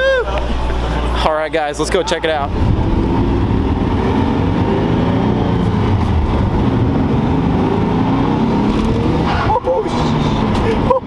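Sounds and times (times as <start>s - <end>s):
car engine running: 0.3s - 11.0s.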